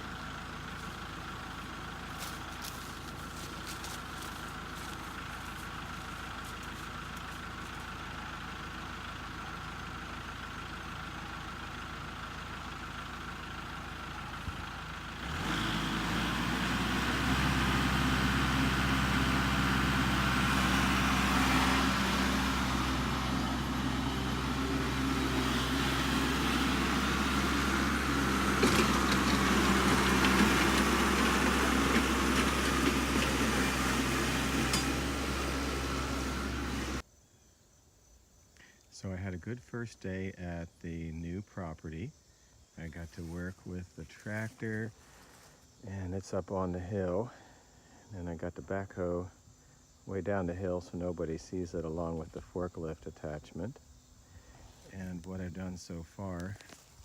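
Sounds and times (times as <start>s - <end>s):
tractor diesel engine running: 0.0s - 37.0s, 39.0s - 57.0s.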